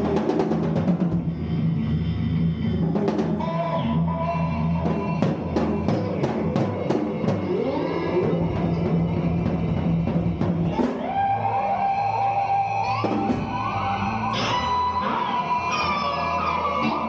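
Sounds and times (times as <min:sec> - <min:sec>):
drum kit: 0:00.0 - 0:01.6, 0:04.7 - 0:17.0
electric guitars: 0:00.0 - 0:17.0.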